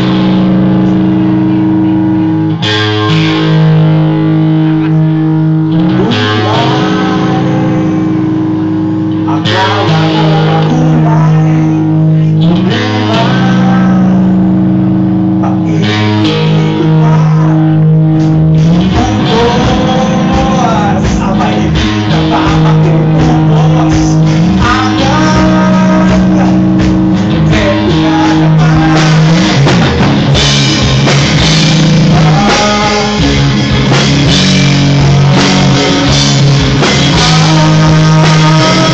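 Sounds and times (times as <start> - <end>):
bending melody line: 0.0 - 38.9
guitar: 0.0 - 38.9
held bass notes: 0.0 - 38.9
rock band playing: 0.0 - 38.9.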